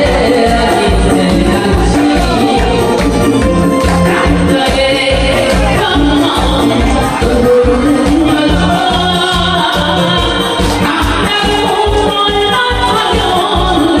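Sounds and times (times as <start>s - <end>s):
amplified accompaniment with bass beat: 0.0s - 14.0s
woman singing into a microphone: 0.0s - 14.0s.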